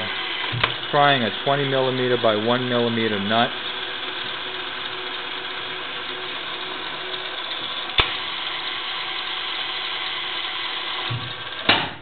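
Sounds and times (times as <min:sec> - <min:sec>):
lathe running with mechanical whir: 0:00.0 - 0:12.0.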